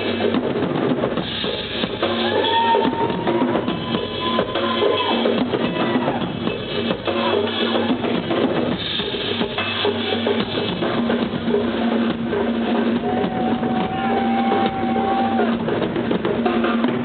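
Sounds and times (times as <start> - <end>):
kick and snare drum beat: 0.0 - 17.0
live rock band playing: 0.0 - 17.0.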